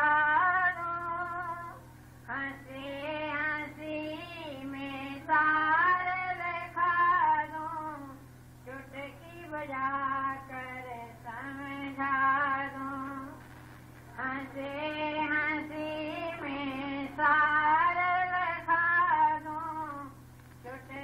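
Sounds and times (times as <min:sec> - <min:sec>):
woman singing a hymn: 0:00.0 - 0:13.5, 0:14.1 - 0:21.0
steady low hum: 0:00.0 - 0:21.0.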